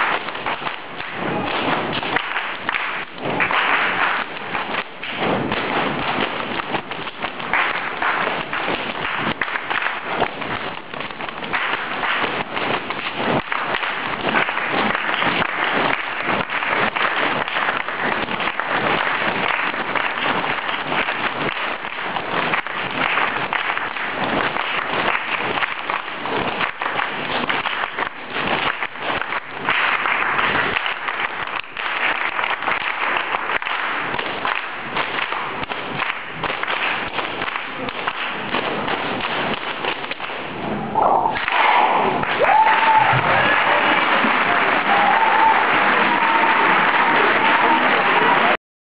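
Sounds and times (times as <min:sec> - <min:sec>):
performers clapping and tapping: 0:00.0 - 0:40.7, 0:41.3 - 0:48.6.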